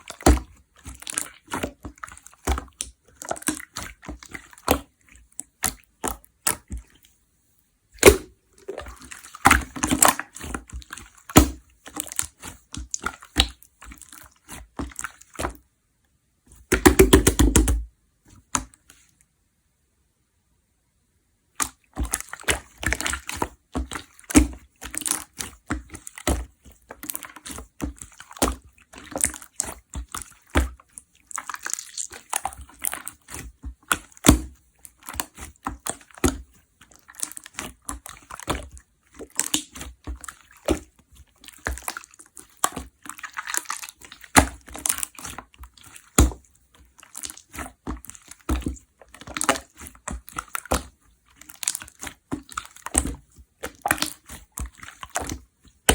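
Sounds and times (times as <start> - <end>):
slime squelching by hand: 0.0 - 7.2, 8.0 - 15.7, 16.5 - 19.2, 21.5 - 55.9.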